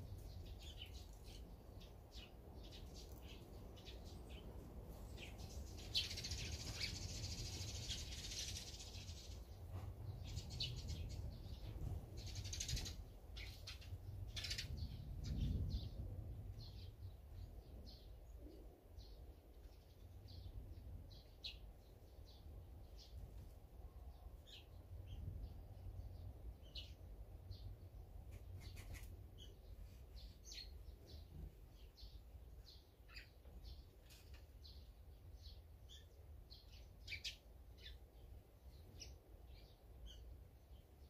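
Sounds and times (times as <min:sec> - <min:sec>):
small songbirds chirping: 0:00.0 - 0:41.0.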